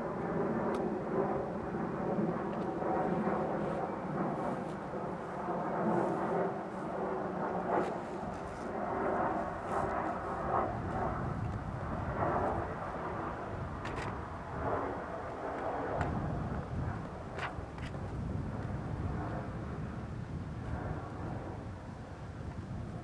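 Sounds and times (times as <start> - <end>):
jet airliner flying over: 0.0 - 23.0.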